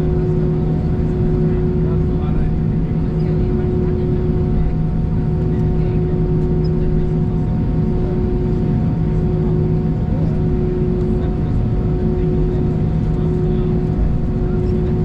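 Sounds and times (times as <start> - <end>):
aircraft cabin rumble: 0.0 - 15.0
steady hum: 0.0 - 15.0.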